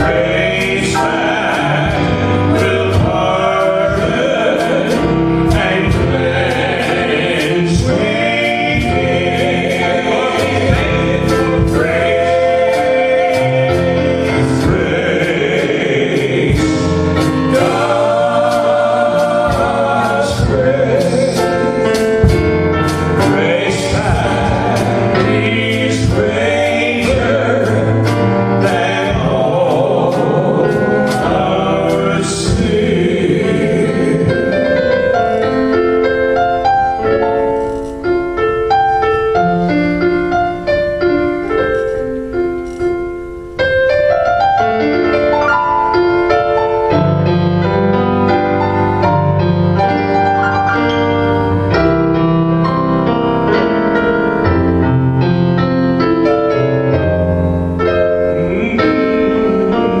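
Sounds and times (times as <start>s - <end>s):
piano hymn accompaniment: 0.0s - 60.0s.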